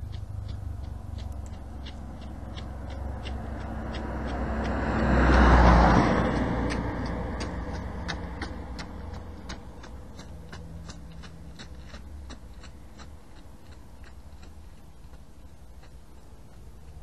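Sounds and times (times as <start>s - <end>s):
jogging footsteps on pavement: 0.0s - 17.0s
passing car rumble: 0.0s - 17.0s.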